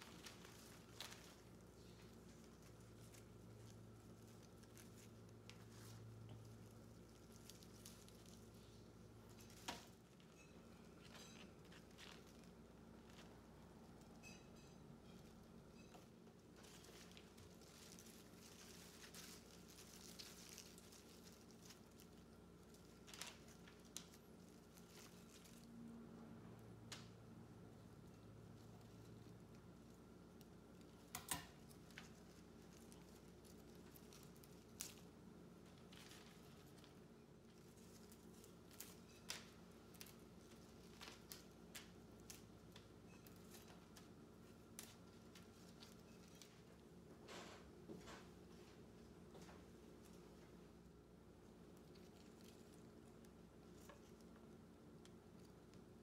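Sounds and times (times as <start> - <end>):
leaves and stems rustling: 0.0 - 14.4, 15.0 - 26.1, 26.9 - 47.0
low steady hum: 0.0 - 56.0.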